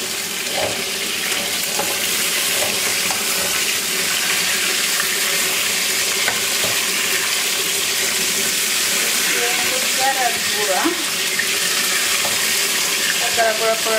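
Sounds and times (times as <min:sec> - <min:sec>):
chicken frying in hot oil: 0:00.0 - 0:13.9.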